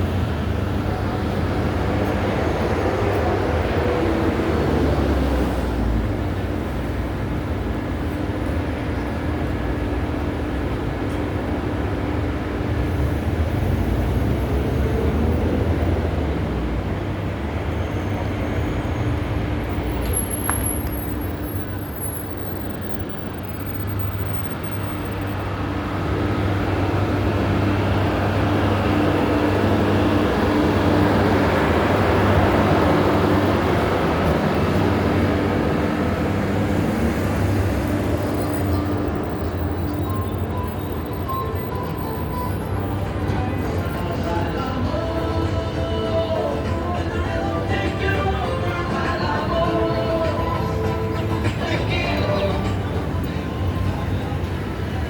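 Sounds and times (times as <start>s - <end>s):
low engine hum: 0.0s - 55.0s
vehicles passing on street: 0.0s - 55.0s.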